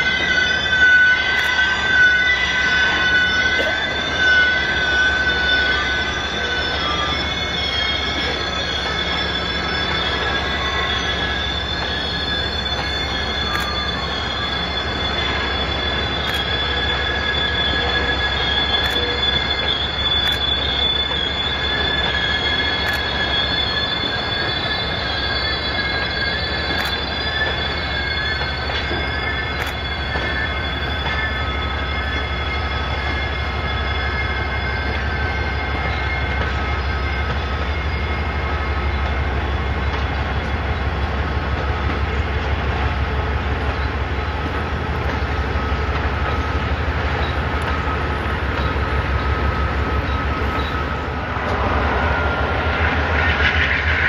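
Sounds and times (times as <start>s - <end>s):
locomotive rumble: 0.0s - 54.0s
train wheels squealing on curve: 0.0s - 54.0s.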